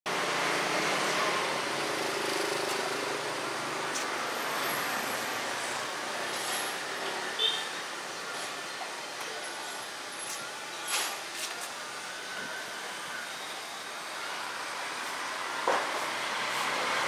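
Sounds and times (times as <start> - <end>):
road traffic: 0.1 - 17.0.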